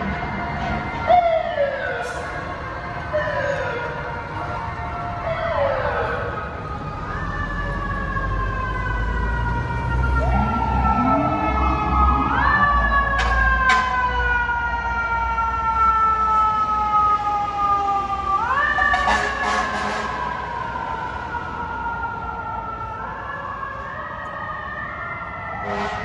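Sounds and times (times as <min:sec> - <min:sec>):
emergency vehicle sirens: 0:00.0 - 0:26.0
fire truck engine rumble: 0:00.0 - 0:26.0.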